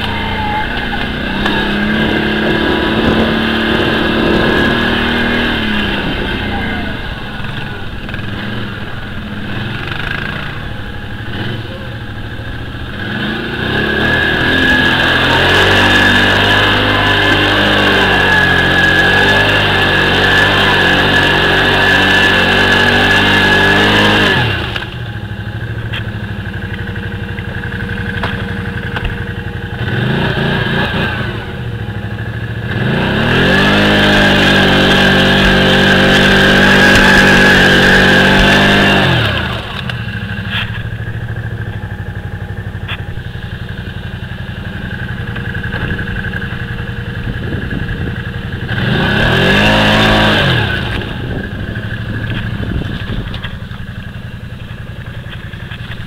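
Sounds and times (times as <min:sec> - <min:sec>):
atv engine revving and idling: 0:00.0 - 0:56.0.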